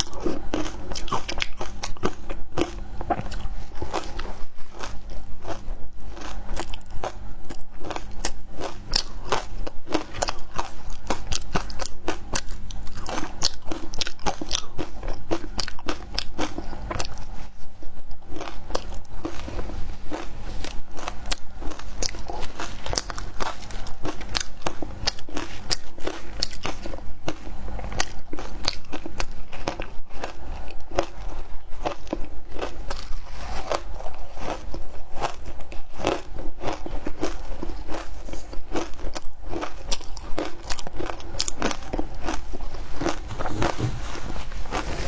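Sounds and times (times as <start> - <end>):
ice being chewed: 0.0 - 45.0.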